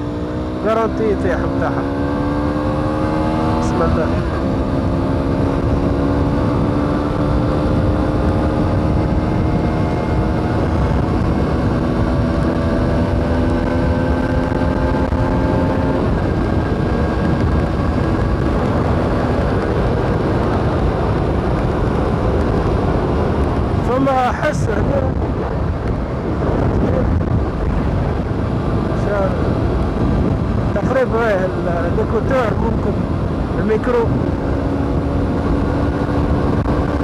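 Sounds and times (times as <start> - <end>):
heavy wind rumble: 0.0 - 37.0
motorcycle engine running: 0.0 - 37.0.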